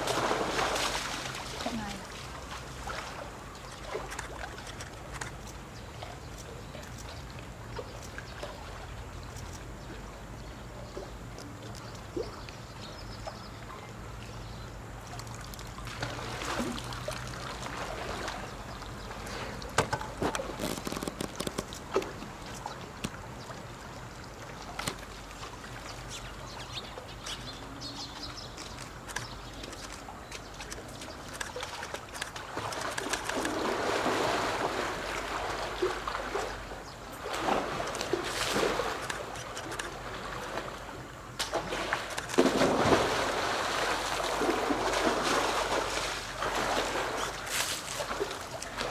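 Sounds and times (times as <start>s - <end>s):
water sloshing and splashing: 0.0s - 10.2s, 15.0s - 48.9s.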